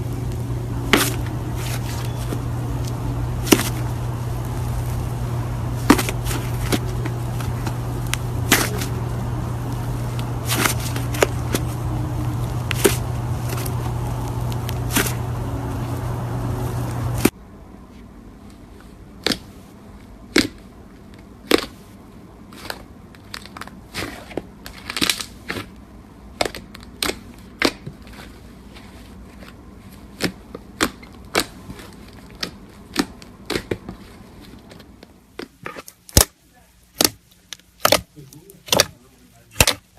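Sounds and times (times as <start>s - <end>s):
steady low hum: 0.0s - 35.8s.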